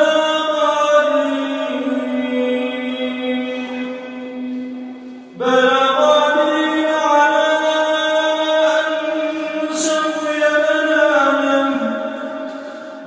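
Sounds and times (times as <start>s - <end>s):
person chanting recitation: 0.0s - 13.0s.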